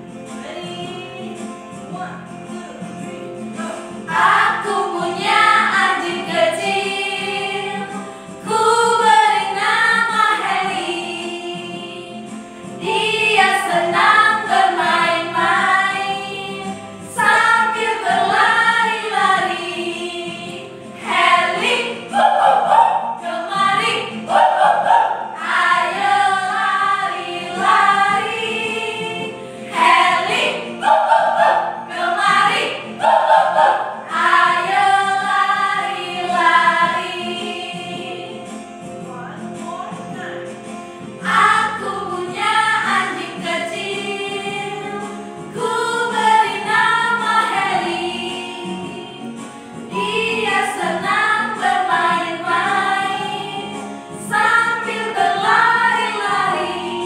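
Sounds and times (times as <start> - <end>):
women singing in unison: 0.4 - 38.6, 41.2 - 57.0.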